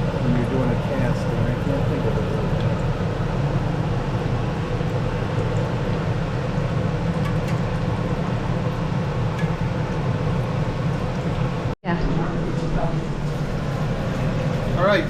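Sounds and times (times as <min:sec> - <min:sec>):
fish frying in hot oil: 0:00.0 - 0:11.8, 0:13.2 - 0:15.0.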